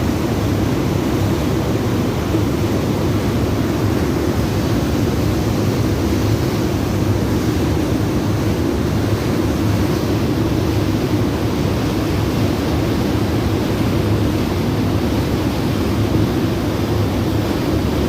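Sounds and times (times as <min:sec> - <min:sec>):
ferry jet engines running: 0:00.0 - 0:18.0.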